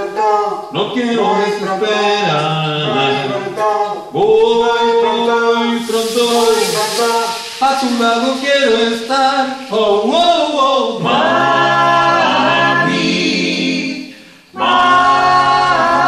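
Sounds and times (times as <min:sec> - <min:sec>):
vocal group singing a cappella: 0:00.0 - 0:16.0.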